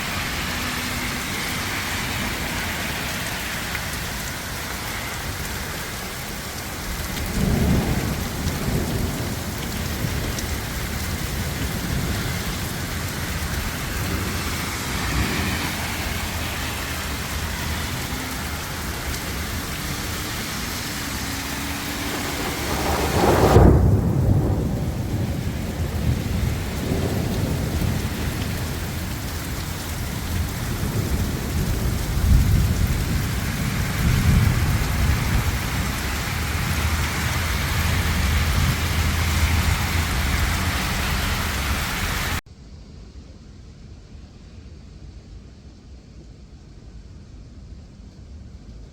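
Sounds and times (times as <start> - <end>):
heavy rain downpour: 0.0 - 42.4
thunder rumbles: 0.0 - 42.4.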